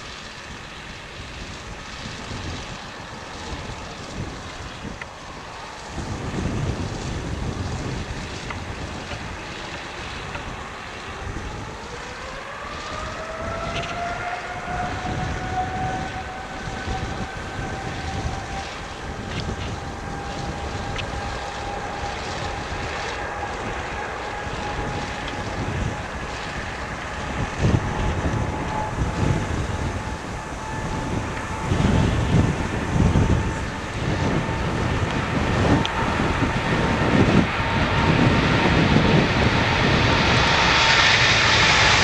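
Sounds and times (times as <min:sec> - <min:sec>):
jet engines spooling up: 0:00.0 - 0:42.0
wind buffeting microphone: 0:00.0 - 0:42.0.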